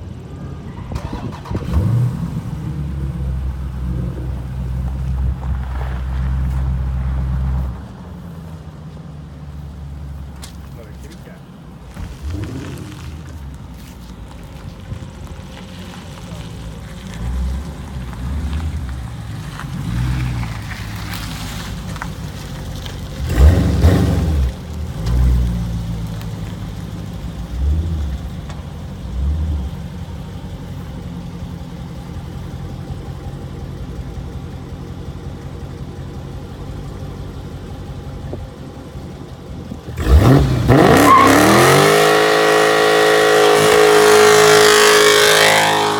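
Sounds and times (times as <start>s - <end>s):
car engine starting and running: 0.0s - 45.9s.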